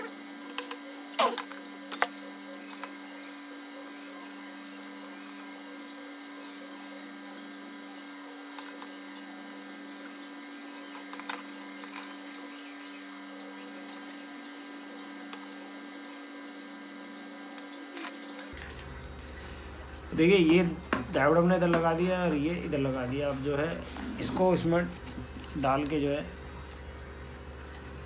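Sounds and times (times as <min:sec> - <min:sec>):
electrical hum with hiss: 0:00.0 - 0:28.0.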